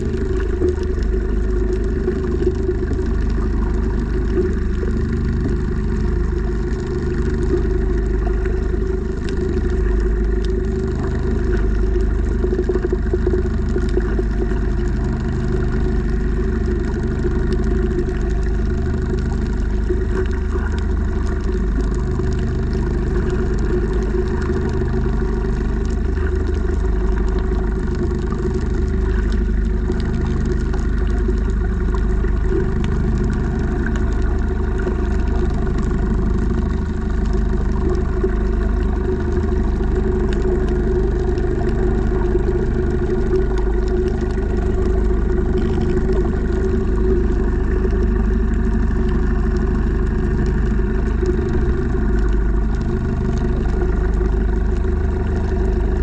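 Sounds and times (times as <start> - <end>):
boat engine drone underwater: 0.0 - 56.0.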